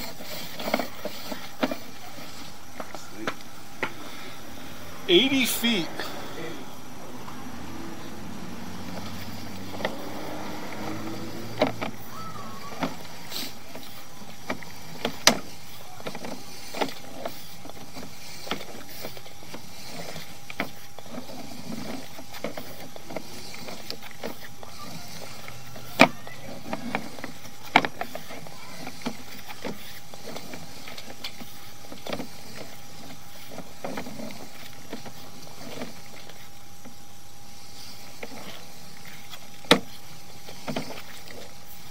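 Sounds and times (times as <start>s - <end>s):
cable winding onto reel: 0.0s - 3.0s, 8.2s - 41.9s.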